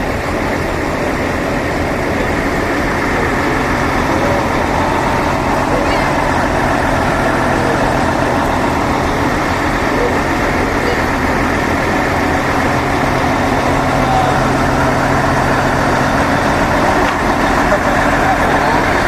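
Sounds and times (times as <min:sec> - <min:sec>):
crowd chatter: 0:00.0 - 0:19.0
diesel trucks idling: 0:00.0 - 0:19.0.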